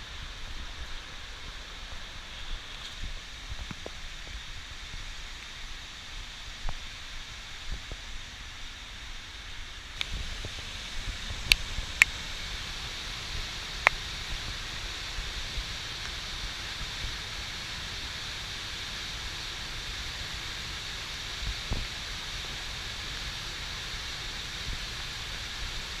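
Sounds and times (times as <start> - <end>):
rushing hiss of falling water: 0.0 - 26.0.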